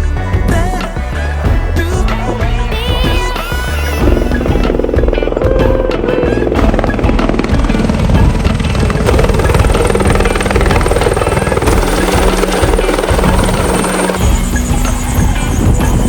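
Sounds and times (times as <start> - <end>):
background music: 0.0 - 16.0
helicopter rotors and turbine: 0.3 - 16.0.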